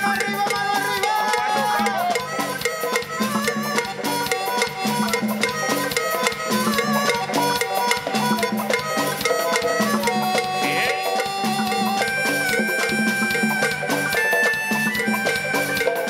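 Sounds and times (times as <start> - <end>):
band playing: 0.0 - 16.0
fast drum beat: 0.0 - 16.0.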